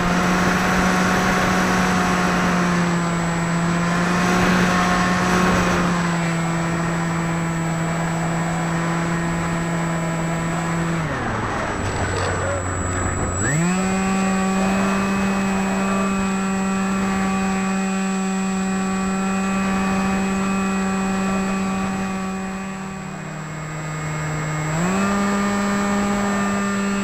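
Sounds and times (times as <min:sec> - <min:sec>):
electric motor and propeller whine: 0:00.0 - 0:27.0.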